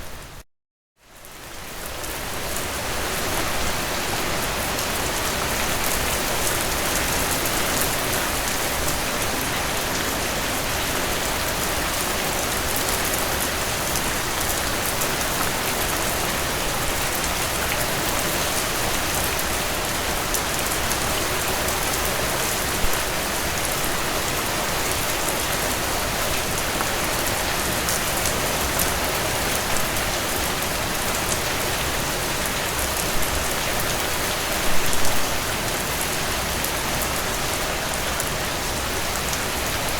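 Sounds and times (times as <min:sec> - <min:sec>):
heavy rain on a tin roof: 0:01.0 - 0:39.9.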